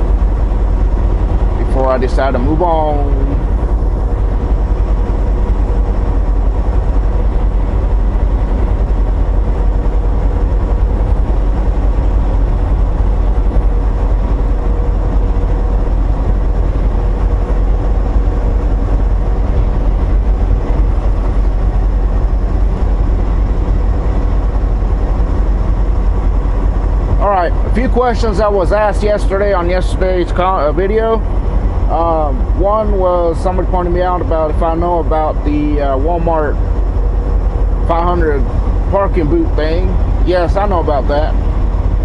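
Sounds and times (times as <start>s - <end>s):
faint whine: 0.0s - 42.0s
truck engine and road drone: 0.0s - 42.0s.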